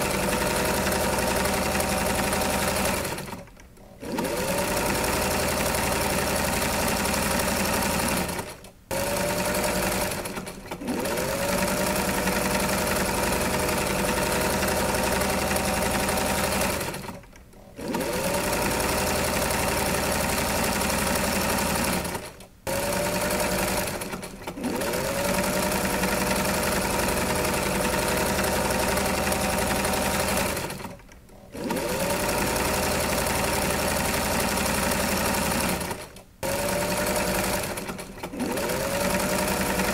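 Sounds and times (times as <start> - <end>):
electric sewing machine running: 0.0 - 39.9.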